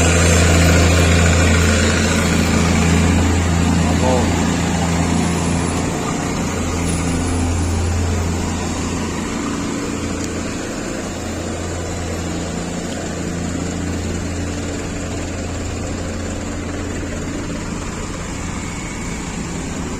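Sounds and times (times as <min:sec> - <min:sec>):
diesel truck engine droning: 0:00.0 - 0:19.9.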